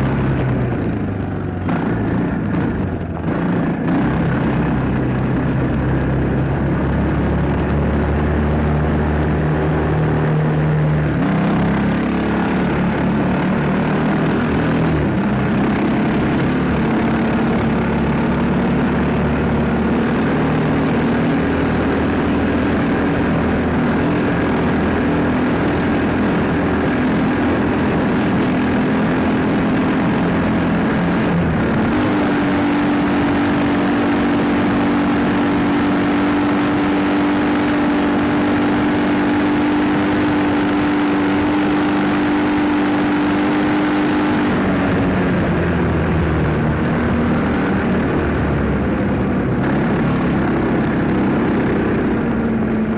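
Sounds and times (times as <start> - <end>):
dirt bike engine running: 0.0 - 52.9
rush of noise: 0.0 - 52.9.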